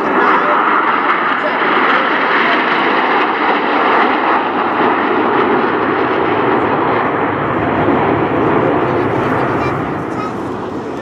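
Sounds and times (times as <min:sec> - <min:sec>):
jet aircraft noise: 0:00.0 - 0:11.0.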